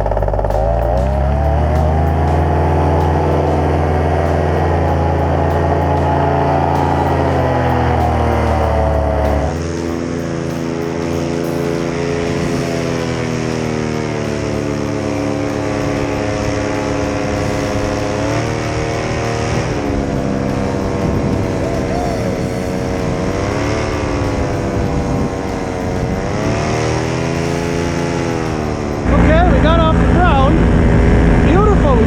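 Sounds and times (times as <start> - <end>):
paramotor engine and propeller: 0.0 - 32.0.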